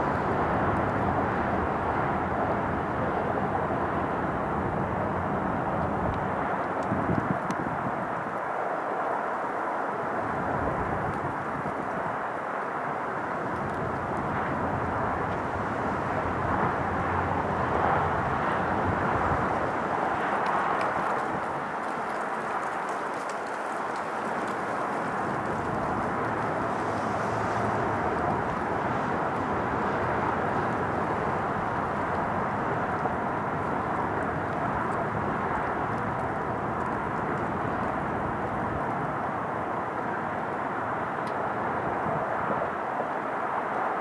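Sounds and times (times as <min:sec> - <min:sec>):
low jet rumble: 0:00.0 - 0:08.6, 0:09.9 - 0:44.0
jet engines rushing: 0:00.0 - 0:44.0.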